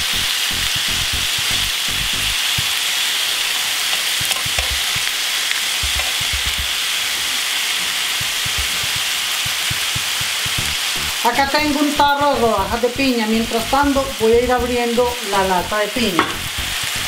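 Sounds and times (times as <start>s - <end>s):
meat sizzling in grill pan: 0.0s - 17.0s.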